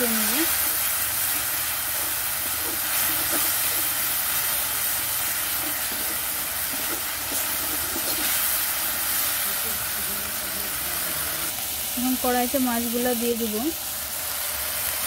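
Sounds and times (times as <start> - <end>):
spatula stirring in pan: 0.0 - 12.4
food sizzling in oil: 0.0 - 15.0.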